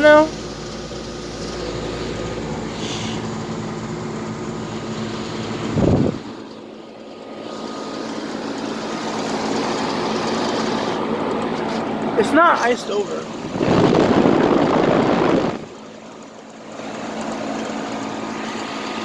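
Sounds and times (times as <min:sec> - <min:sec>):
fan rushing air: 0:00.0 - 0:19.0.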